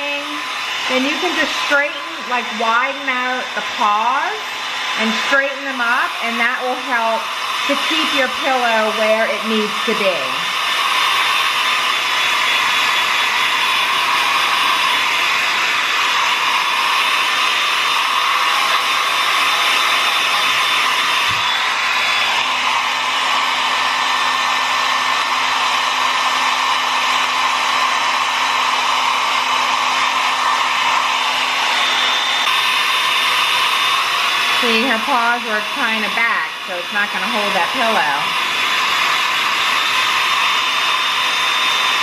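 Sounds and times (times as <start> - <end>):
hair dryer blowing: 0.0 - 42.0.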